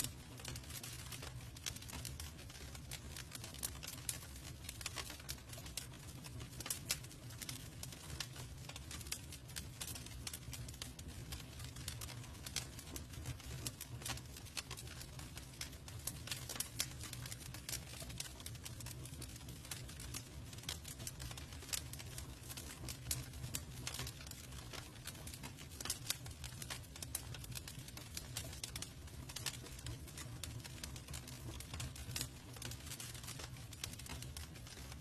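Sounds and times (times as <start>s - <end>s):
low rumble of flames: 0.0s - 35.0s
wood crackling and popping: 0.0s - 35.0s.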